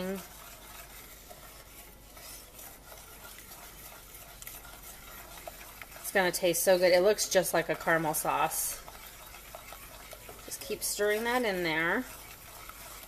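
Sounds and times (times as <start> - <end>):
faint butter sizzle: 0.0 - 13.0
wooden spoon scraping saucepan: 0.0 - 13.0.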